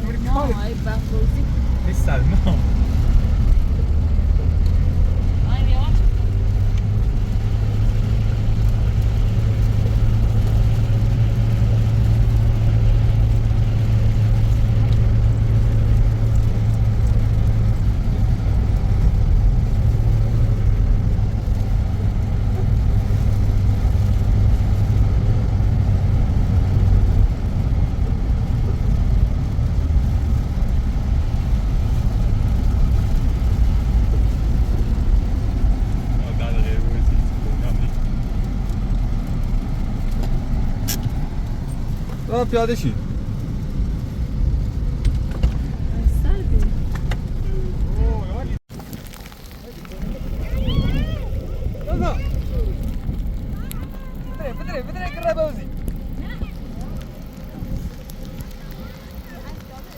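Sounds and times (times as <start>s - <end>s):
engine hum: 0.0s - 59.9s
road rumble: 0.0s - 59.9s.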